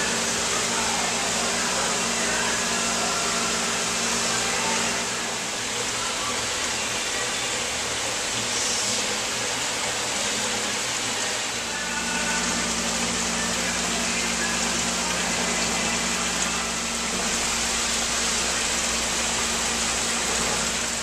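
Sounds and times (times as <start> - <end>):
aquarium pumps and circulating water: 0.0 - 21.0.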